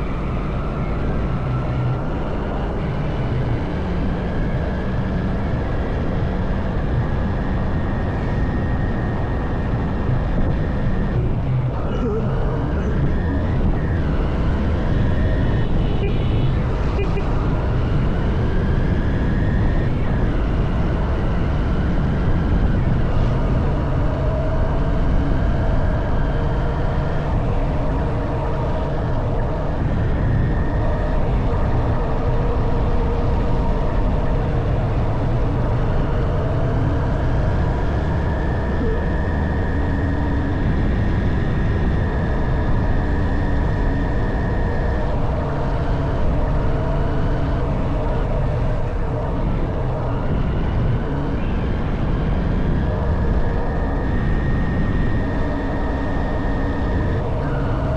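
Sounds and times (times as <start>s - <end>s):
wind and road noise: 0.0s - 57.9s.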